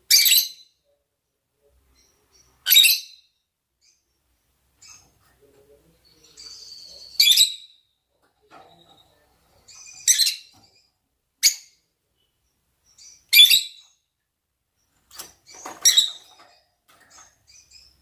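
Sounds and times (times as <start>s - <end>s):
soft bird chirps: 0.1s - 18.0s.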